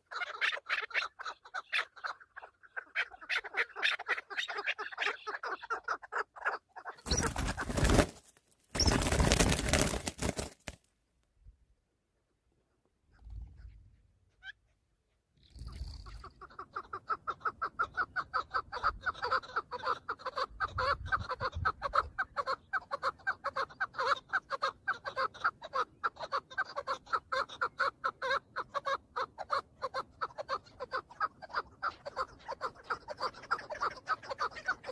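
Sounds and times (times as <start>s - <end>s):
partridge clucking calls: 0.0s - 8.2s, 8.8s - 10.5s, 13.1s - 34.9s.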